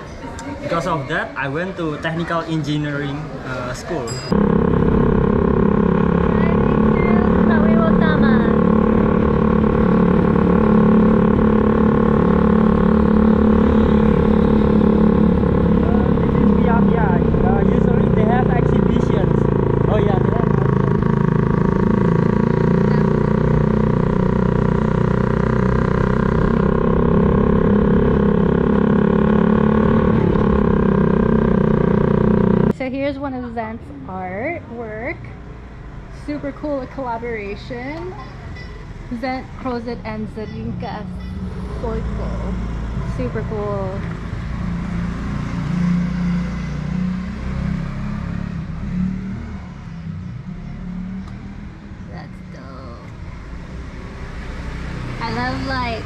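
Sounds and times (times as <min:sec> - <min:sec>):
motorbike engine cruising: 0:00.7 - 0:56.0.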